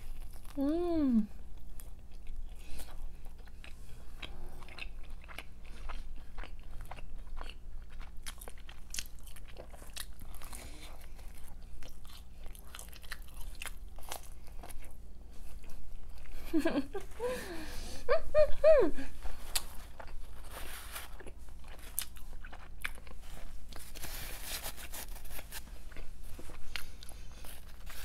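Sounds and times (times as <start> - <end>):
person chewing crunchy pizza: 0.0 - 17.4, 19.2 - 28.0.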